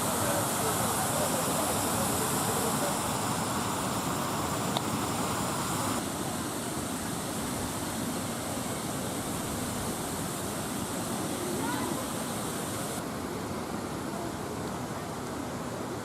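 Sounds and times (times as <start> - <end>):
steady outdoor rushing noise: 0.0 - 16.0.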